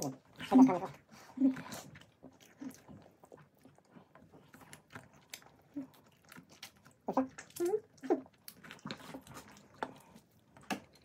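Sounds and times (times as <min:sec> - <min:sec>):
person chewing and biting: 0:01.7 - 0:11.0.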